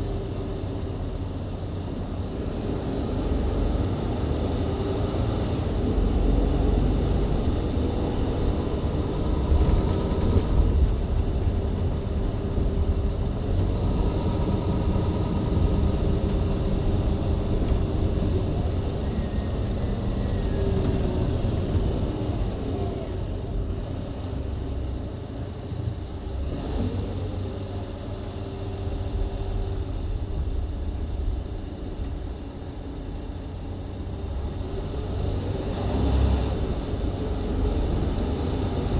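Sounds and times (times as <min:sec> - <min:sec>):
bus engine: 0:00.0 - 0:38.9
road noise rumble: 0:00.0 - 0:38.9.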